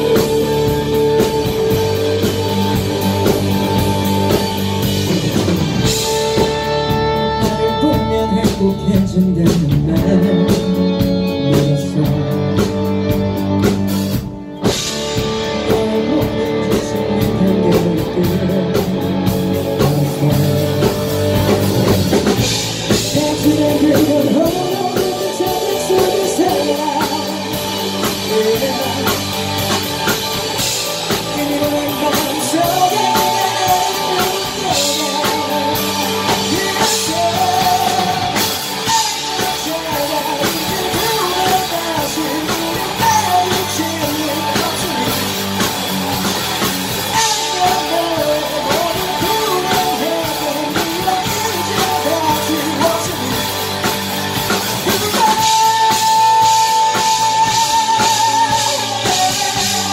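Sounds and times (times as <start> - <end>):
male vocalist singing: 0.0 - 13.0, 15.2 - 59.9
drum kit: 0.0 - 59.9
electric bass: 0.0 - 59.9
electric guitars: 0.0 - 59.9.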